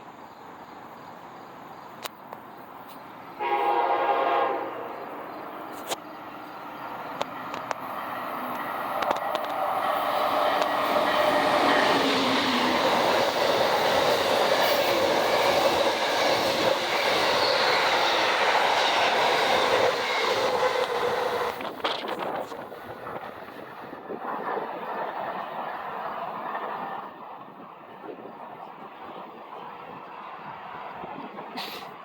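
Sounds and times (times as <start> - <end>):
passenger train passing: 0.0 - 32.0.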